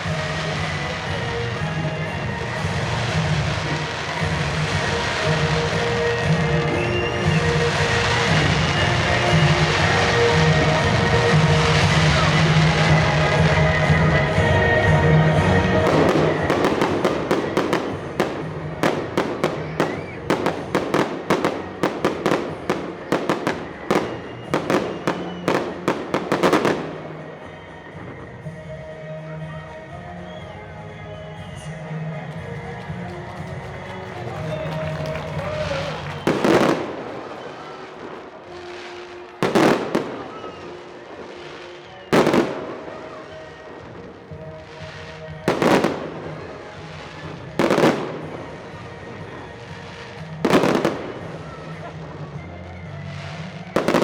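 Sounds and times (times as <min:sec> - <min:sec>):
fireworks bursting: 0:00.0 - 0:30.8, 0:31.4 - 0:54.0.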